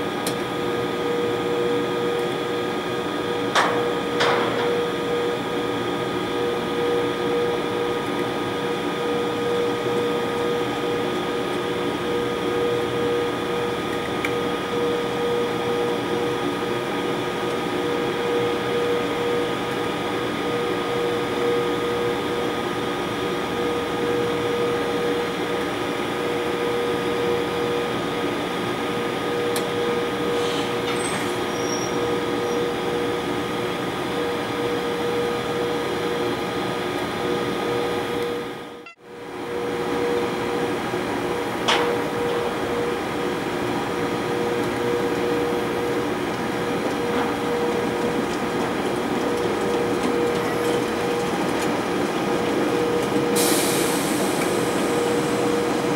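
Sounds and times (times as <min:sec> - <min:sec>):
locomotive machinery humming: 0:00.0 - 0:55.9.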